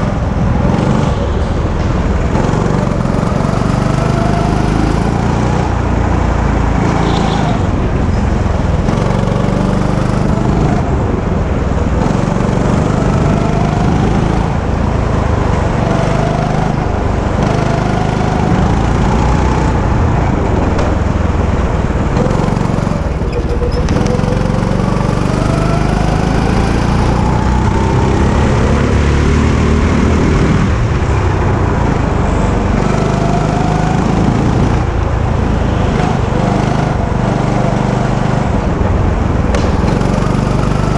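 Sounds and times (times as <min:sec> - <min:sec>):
go-kart engine revving: 0:00.0 - 0:40.9.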